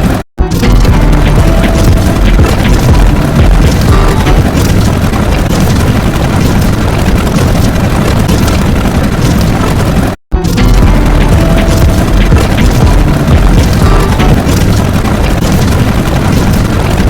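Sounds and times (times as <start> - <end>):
loud dense rumbling: 0.0 - 17.0.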